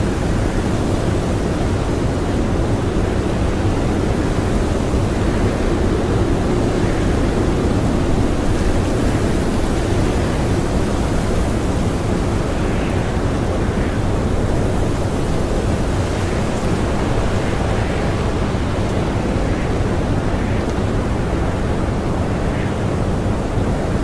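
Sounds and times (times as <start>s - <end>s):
blizzard wind rushing: 0.0s - 24.0s.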